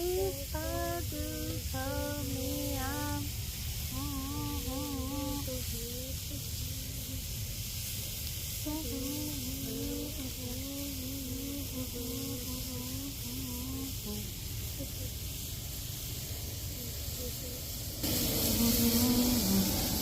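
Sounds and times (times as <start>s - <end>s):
chicken sizzling on grill: 0.0s - 20.0s.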